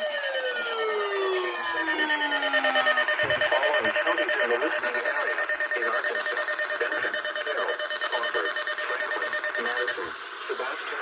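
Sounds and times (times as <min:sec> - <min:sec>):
rapid alarm beeping: 0:00.0 - 0:10.0.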